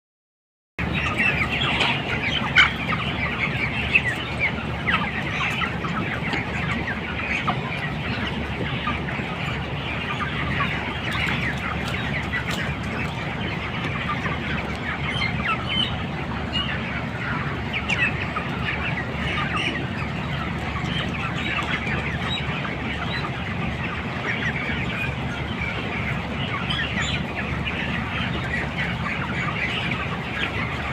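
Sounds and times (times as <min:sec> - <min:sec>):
chickens cheeping and clucking: 0:00.8 - 0:30.9.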